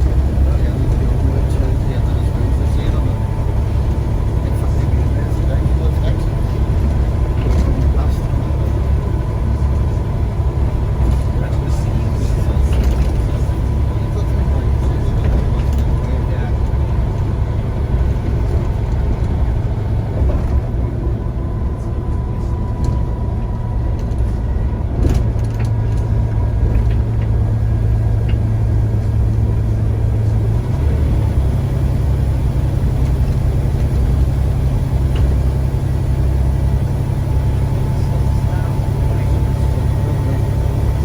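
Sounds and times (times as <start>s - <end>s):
bus diesel engine drone: 0.0s - 41.0s.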